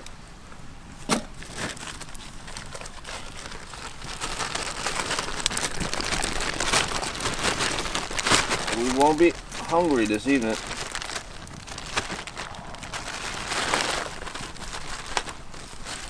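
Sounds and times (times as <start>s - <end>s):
plastic bag crinkling: 1.4s - 16.0s.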